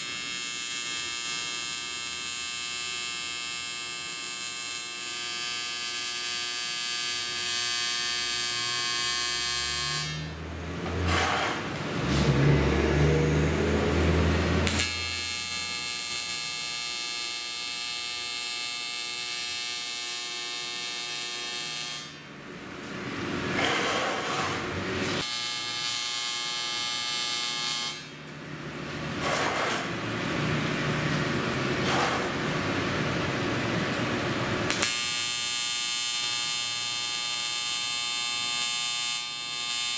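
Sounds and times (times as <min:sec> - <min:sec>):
welding arc buzzing: 0:00.0 - 0:12.8, 0:13.6 - 0:22.2, 0:22.8 - 0:28.2, 0:28.8 - 0:30.0, 0:34.3 - 0:39.9.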